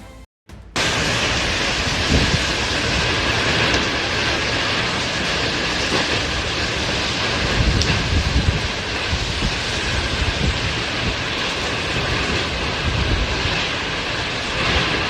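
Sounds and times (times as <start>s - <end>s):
storm wind rushing: 0.5s - 15.0s.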